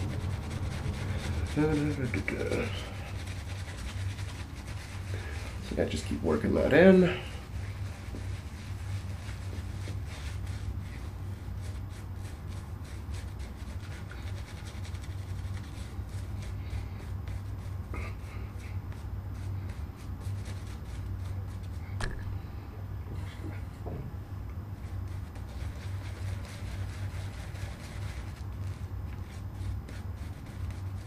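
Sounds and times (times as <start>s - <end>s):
shaving brush scrubbing lather: 0.0s - 21.9s, 24.8s - 31.0s
steady low hum: 0.0s - 31.0s.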